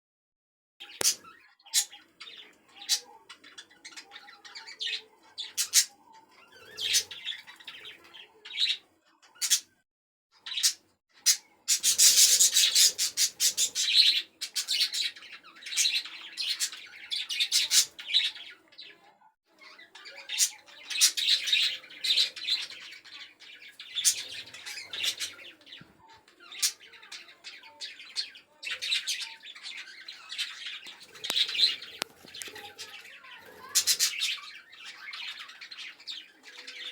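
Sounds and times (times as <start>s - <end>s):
budgerigars chirping and chattering: 0.8s - 9.8s, 10.4s - 36.9s.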